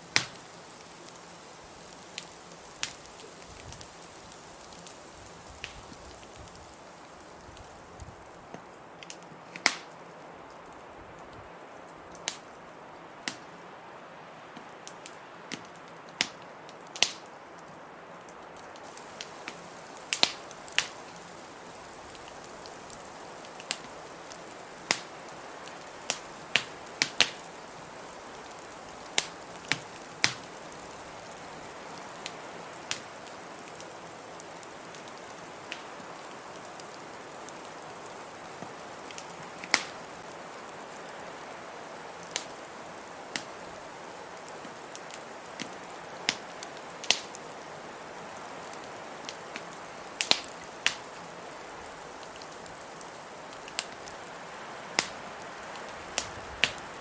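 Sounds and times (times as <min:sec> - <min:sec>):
blizzard wind hissing: 0:00.0 - 0:09.5, 0:18.8 - 0:57.0
wood fire crackling: 0:00.0 - 0:57.0.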